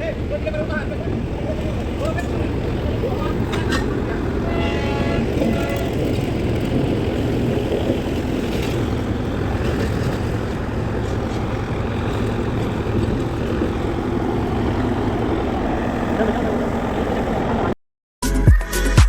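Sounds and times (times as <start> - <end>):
toy train low rumble: 0.3 - 17.8.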